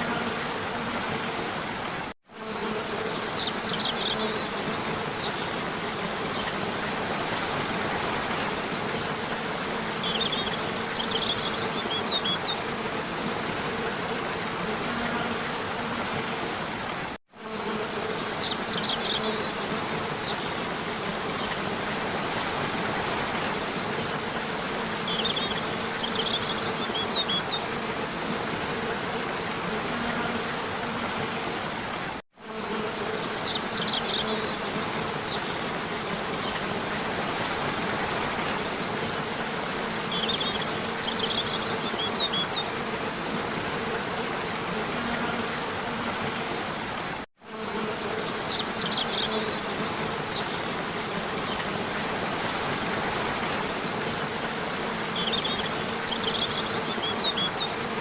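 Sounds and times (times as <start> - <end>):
steady hissing noise: 0.0 - 58.0.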